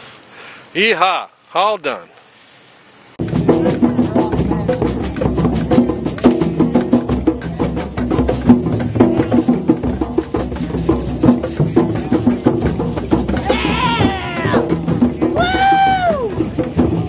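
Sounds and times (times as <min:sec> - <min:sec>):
instrumental music with knocking beat: 0:03.2 - 0:17.0.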